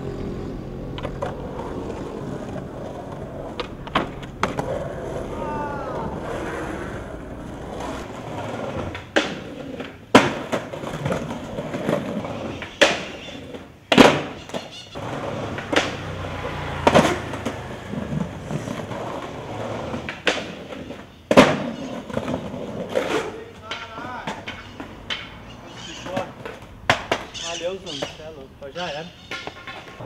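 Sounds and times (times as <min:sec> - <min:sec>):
skateboard wheels rolling on concrete: 0:00.0 - 0:30.0
skateboard wooden clacks: 0:00.9 - 0:28.3, 0:29.3 - 0:30.0.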